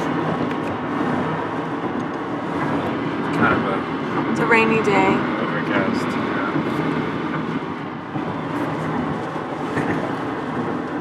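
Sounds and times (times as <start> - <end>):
car hum: 0.0 - 11.0
tyres on wet road: 0.0 - 11.0.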